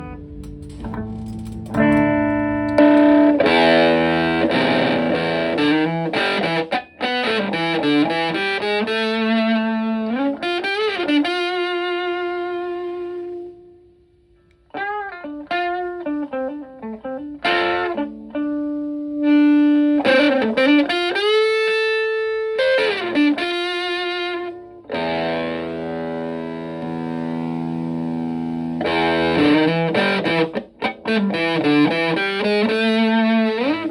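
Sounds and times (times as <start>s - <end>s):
fuzzy electric guitar: 0.0s - 33.9s.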